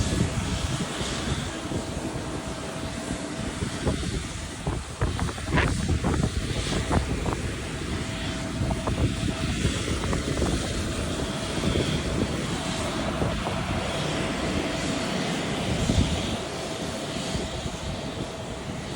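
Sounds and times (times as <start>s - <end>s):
jet engines running: 0.0s - 18.9s.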